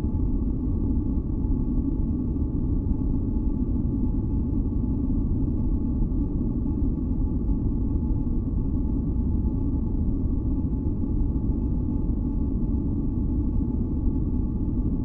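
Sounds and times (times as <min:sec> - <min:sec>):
faint steady hums: 0:00.0 - 0:15.0.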